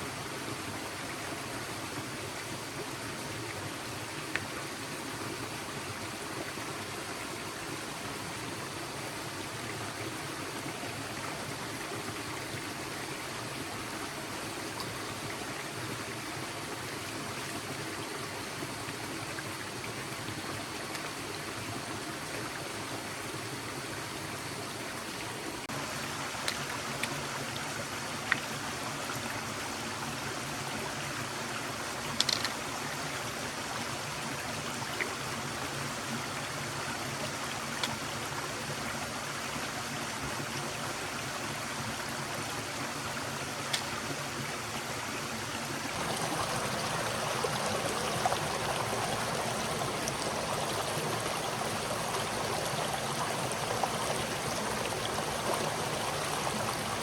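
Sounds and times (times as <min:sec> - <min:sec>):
forest stream flowing: 0:00.0 - 0:57.0.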